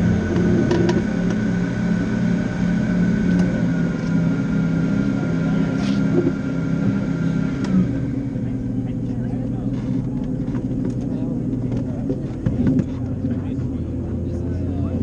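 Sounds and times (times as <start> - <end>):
race car engine running: 0.0 - 15.0.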